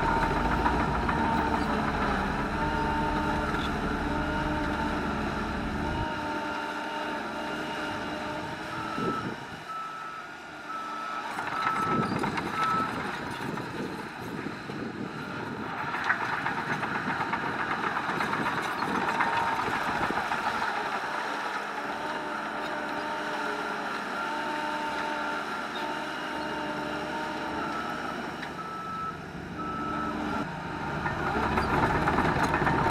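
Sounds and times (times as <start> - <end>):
heavy machinery engines: 0.0 - 32.9.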